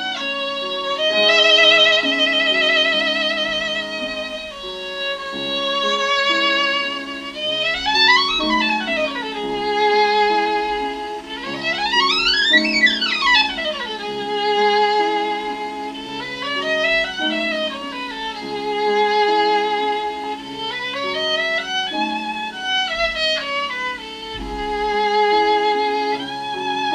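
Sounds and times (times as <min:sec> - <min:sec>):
lower accompaniment: 0:00.0 - 0:26.9
violin with vibrato: 0:00.0 - 0:26.9.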